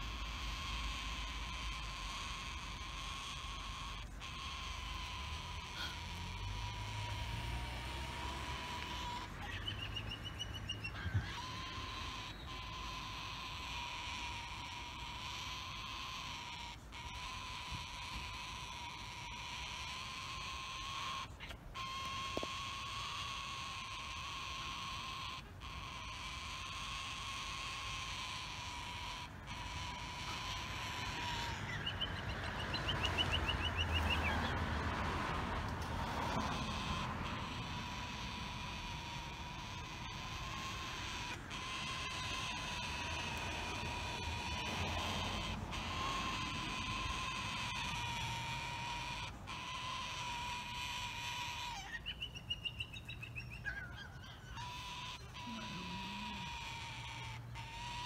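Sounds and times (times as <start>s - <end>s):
cockatoos chattering: 0.0s - 58.0s
faint steady tone: 0.0s - 58.0s
noisy outdoor background: 0.0s - 58.0s.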